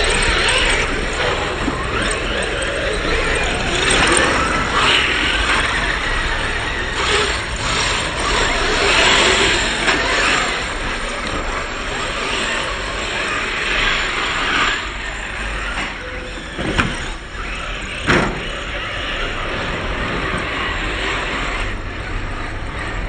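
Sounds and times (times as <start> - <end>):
radio-controlled cars whirring: 0.0 - 23.0.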